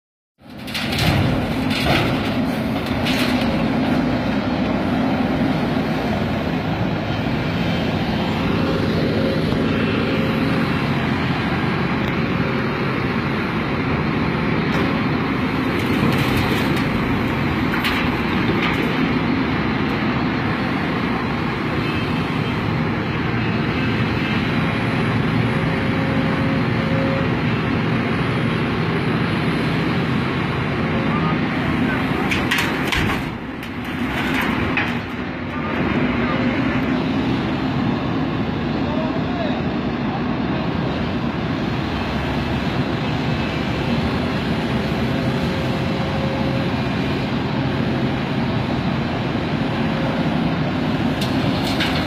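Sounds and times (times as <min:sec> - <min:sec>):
excavator diesel engine and hydraulics: 0:00.4 - 0:52.0.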